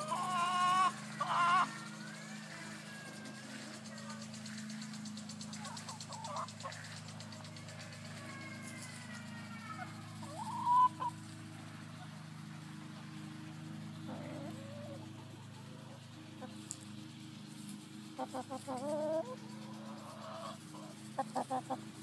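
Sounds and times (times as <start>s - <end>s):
chickens calling and clucking: 0.0s - 22.0s
steady low hum: 0.0s - 22.0s.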